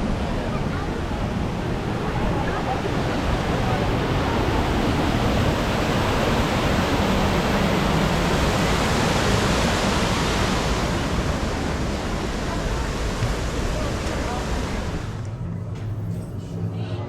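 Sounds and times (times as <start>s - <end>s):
steady rushing noise: 0.0s - 15.5s.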